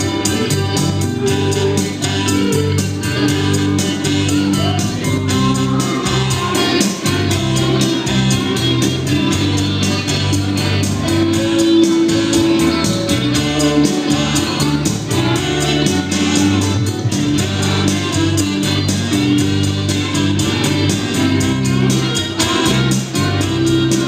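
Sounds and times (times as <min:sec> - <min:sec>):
live band music: 0:00.0 - 0:24.0
person singing: 0:00.0 - 0:24.0.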